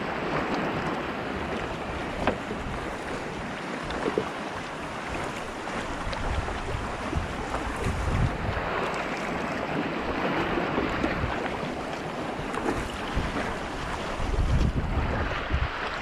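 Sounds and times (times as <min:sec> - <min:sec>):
water splashing against kayak hull: 0:00.0 - 0:16.0
wind buffeting microphone: 0:00.0 - 0:16.0.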